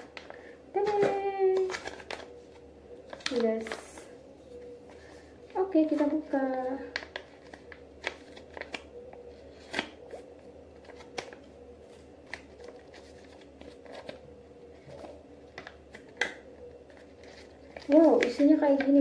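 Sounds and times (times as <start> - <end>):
paper packet crinkling and tearing: 0.0 - 4.2, 4.8 - 19.0.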